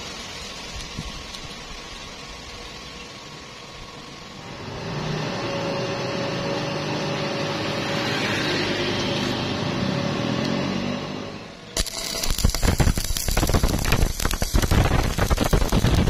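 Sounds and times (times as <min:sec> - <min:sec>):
welding machine cooling fan whirring: 0:00.0 - 0:16.0.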